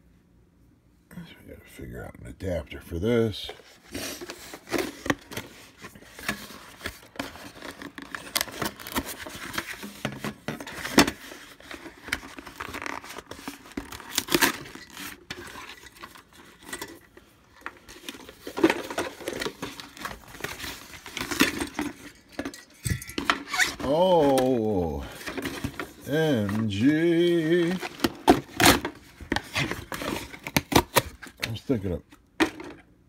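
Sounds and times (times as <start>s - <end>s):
cardboard rustling and crinkling: 3.4s - 32.9s.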